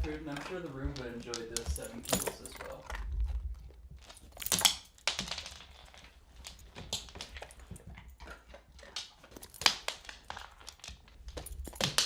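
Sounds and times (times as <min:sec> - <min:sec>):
dog crunching kibble: 0:00.0 - 0:12.0.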